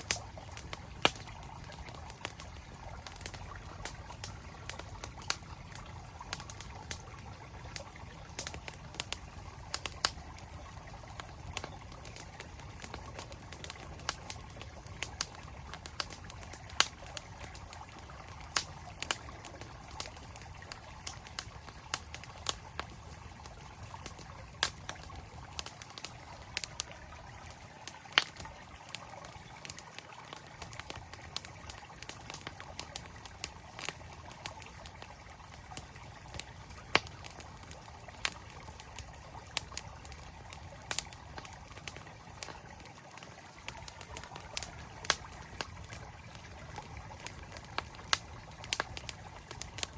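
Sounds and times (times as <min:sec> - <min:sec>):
campfire crackling: 0:00.0 - 0:49.9
stream flowing: 0:00.0 - 0:49.9.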